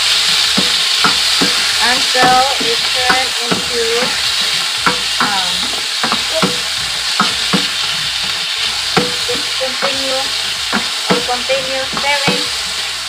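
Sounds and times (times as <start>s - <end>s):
chicken sizzling in hot oil: 0.0s - 13.0s
spatula scraping a wok: 0.0s - 13.0s.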